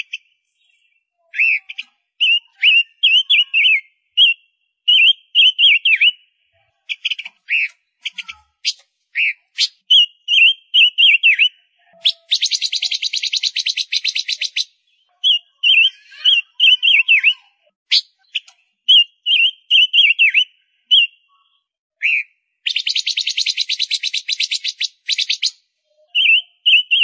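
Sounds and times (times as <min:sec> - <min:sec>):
bird chirping: 0:00.0 - 0:27.0.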